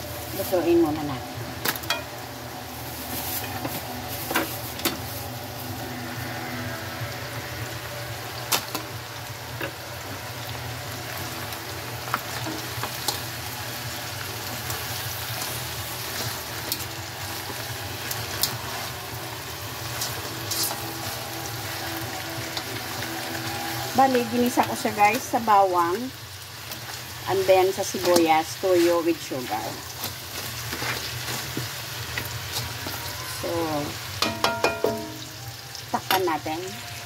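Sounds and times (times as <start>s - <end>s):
crabs sizzling in oil: 0.0s - 37.0s.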